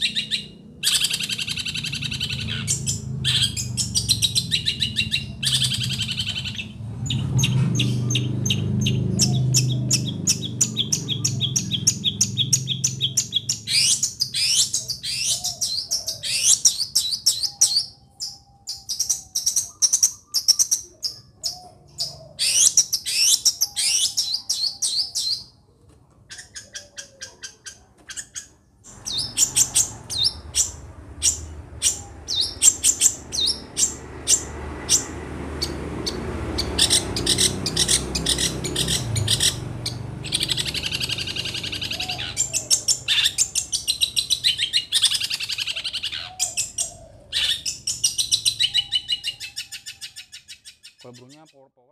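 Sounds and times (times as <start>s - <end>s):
shrike singing chirps and trills: 0.0s - 25.6s, 26.3s - 51.7s.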